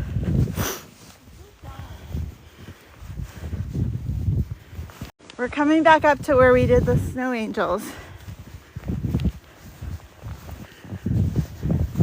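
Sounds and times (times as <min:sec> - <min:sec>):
footsteps in deep snow: 0:00.0 - 0:12.0.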